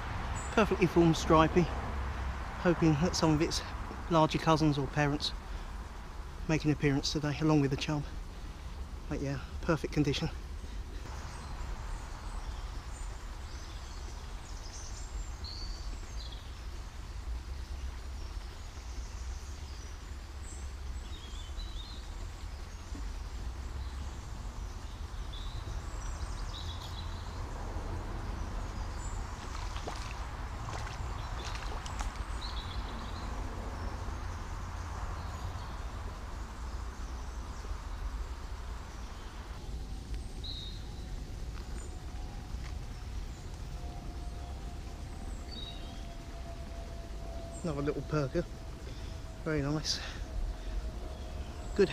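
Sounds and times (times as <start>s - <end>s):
steady low rumble: 0.0s - 51.9s.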